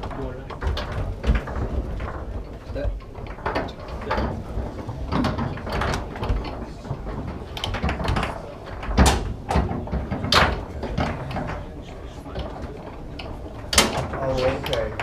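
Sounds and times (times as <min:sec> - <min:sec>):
foosball knocks and clacks: 0:00.0 - 0:15.0.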